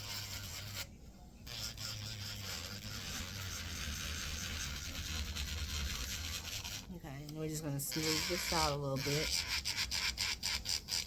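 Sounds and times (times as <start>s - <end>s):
nail being filed: 0.0s - 0.9s, 1.5s - 6.9s, 7.9s - 11.0s.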